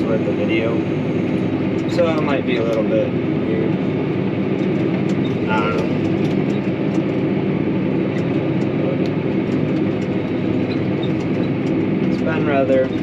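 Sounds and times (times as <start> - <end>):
farm vehicle engine rumbling: 0.0 - 13.0.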